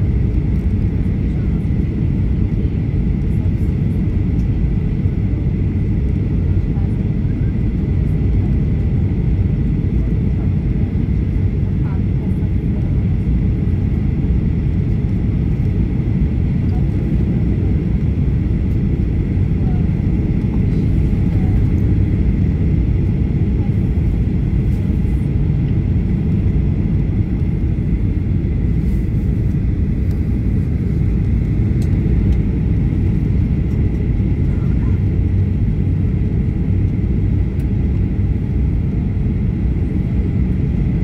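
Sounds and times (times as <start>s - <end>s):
aircraft cabin engine rumble: 0.0s - 41.0s.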